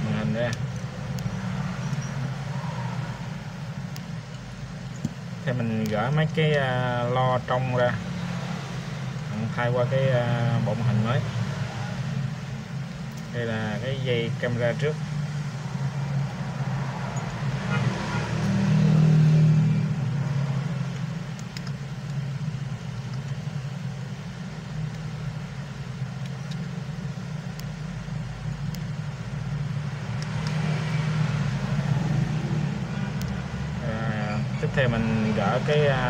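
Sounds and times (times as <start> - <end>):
road traffic hum: 0.0 - 36.0
vehicles passing: 0.0 - 36.0.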